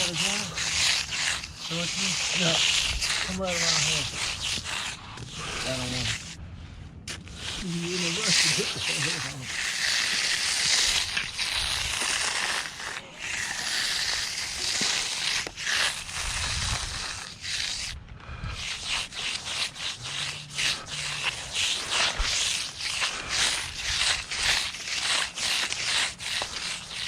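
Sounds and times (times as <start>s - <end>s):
float scraping wet concrete: 0.0s - 6.4s, 7.1s - 27.0s.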